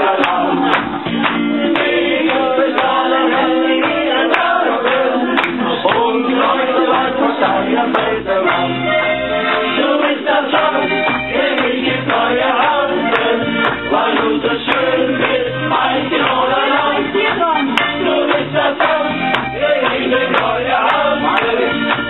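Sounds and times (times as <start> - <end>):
man and woman singing together: 0.0 - 1.0, 1.7 - 8.7, 9.8 - 21.8
accordion: 0.0 - 22.0
guitar: 0.0 - 22.0
steady beat: 0.0 - 22.0.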